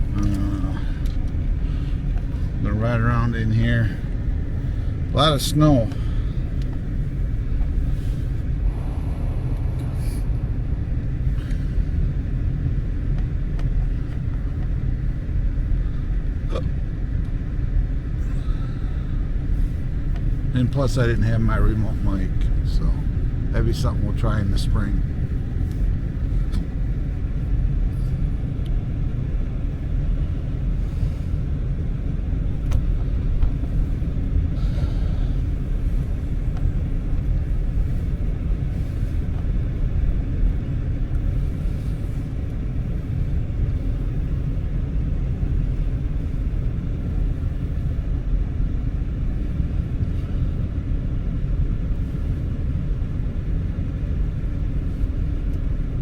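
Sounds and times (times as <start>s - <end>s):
vehicle rumble on snowy road: 0.0s - 56.0s.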